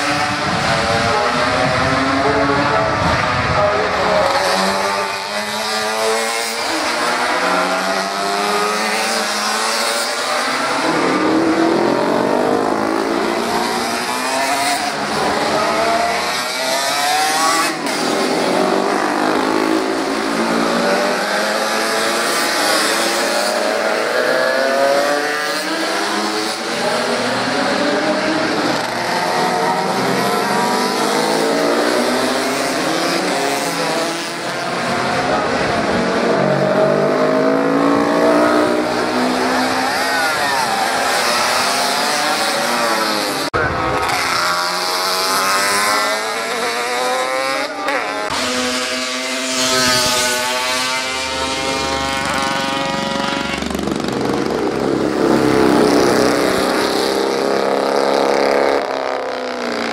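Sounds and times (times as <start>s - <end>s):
racing motorcycles passing: 0.0s - 59.9s.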